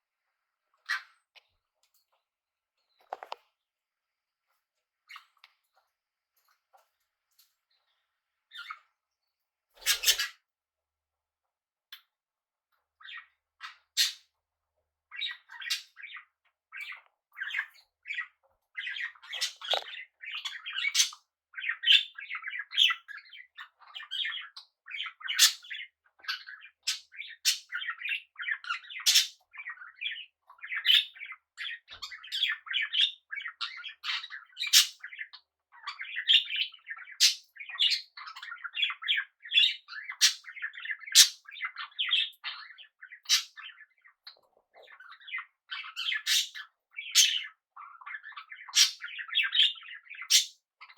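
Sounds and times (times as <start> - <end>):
parrots chirping and chattering: 0.7 - 2.1, 2.9 - 3.5, 5.1 - 9.0, 9.8 - 10.5, 13.0 - 14.3, 15.1 - 50.9.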